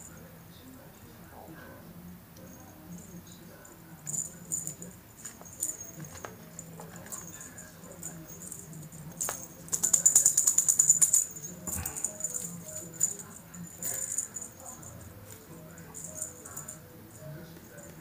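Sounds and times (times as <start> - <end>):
cat toy rattling and jingling: 2.5 - 18.0.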